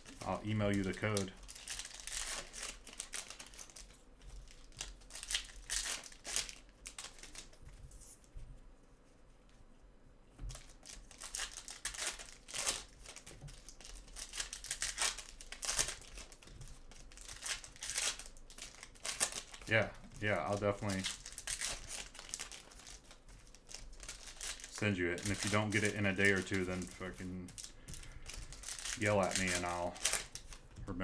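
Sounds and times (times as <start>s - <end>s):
card pack wrappers crinkling: 0.0s - 7.8s, 10.4s - 30.8s.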